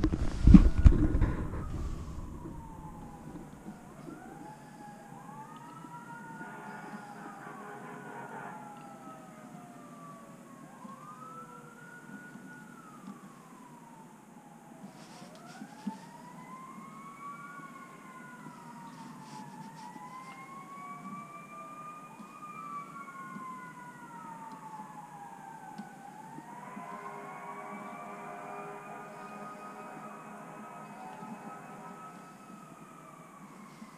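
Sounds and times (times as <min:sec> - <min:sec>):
emergency sirens wailing: 0:00.0 - 0:33.9.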